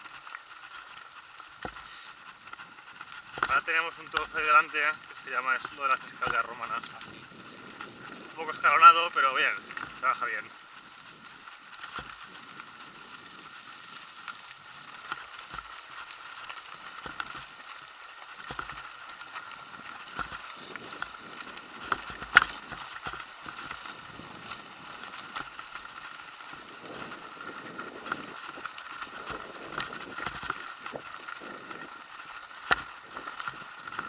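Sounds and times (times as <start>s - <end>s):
bike knocking and rattling: 0.0s - 34.0s
bike tyres crackling over gravel: 0.0s - 34.0s.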